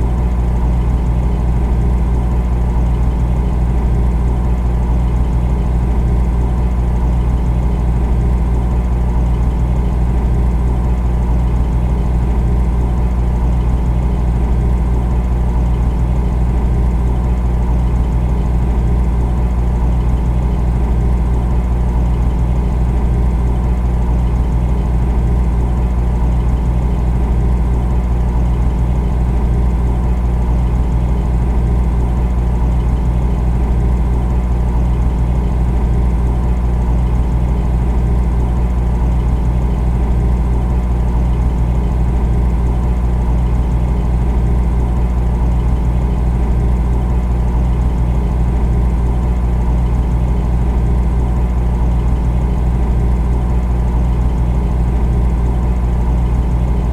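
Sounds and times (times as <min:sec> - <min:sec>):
refrigerator humming: 0:00.0 - 0:56.9.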